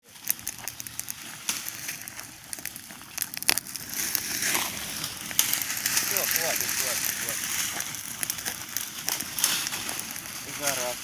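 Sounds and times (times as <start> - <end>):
bonfire crackling: 0.0 - 11.0
sharp pops and snaps: 0.0 - 11.0.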